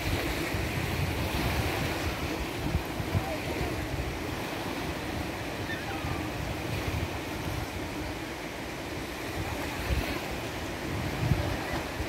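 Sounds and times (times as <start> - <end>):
small waves breaking on shore: 0.0 - 12.0
wind buffeting microphone: 0.0 - 12.0.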